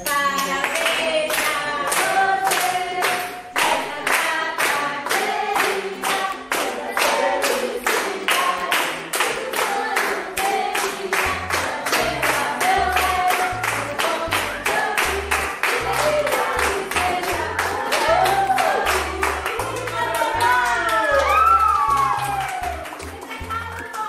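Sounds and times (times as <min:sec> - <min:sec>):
group singing: 0:00.0 - 0:21.2
rhythmic clapping: 0:00.0 - 0:24.0.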